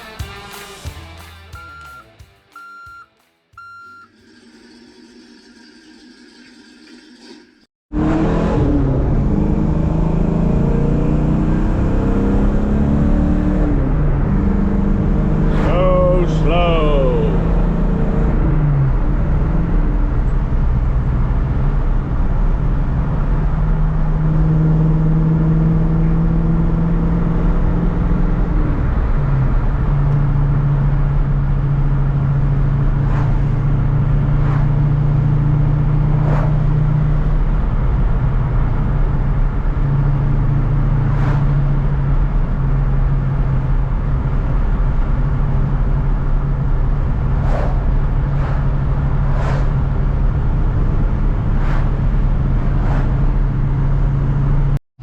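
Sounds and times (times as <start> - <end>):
car engine running while driving: 7.9 - 54.8.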